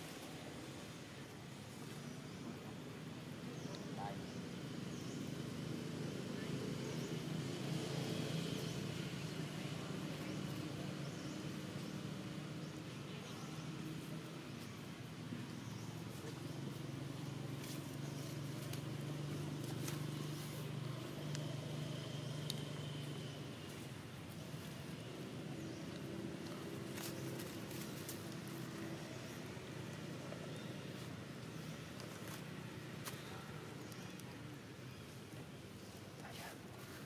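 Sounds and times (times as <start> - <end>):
engine running with low hum: 0.0 - 37.0.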